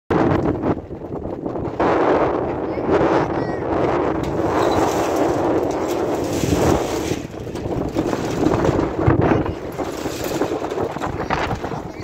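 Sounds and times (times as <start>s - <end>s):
strong wind gusting on microphone: 0.1s - 12.0s.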